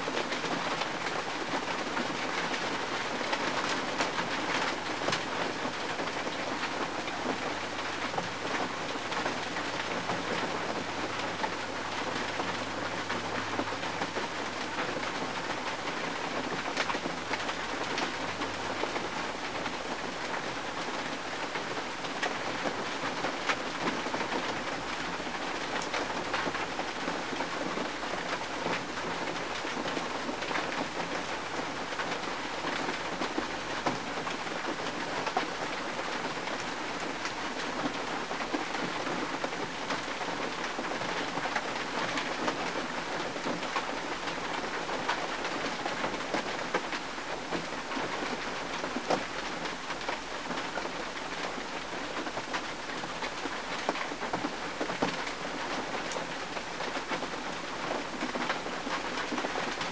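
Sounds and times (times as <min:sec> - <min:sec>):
rain on car windshield: 0:00.0 - 0:59.9.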